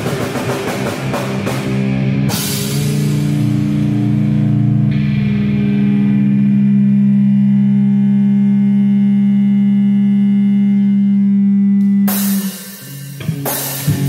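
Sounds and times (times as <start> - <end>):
rock guitar chord ringing: 0.0 - 14.0.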